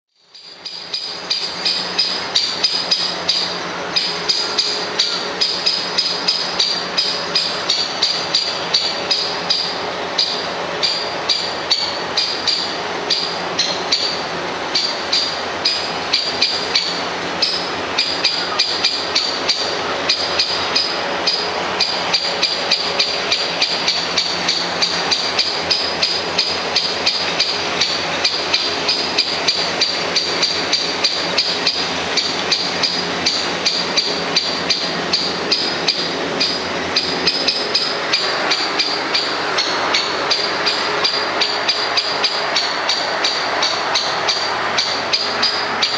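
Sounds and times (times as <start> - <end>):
woodpecker alarm call: 0.3 - 45.9.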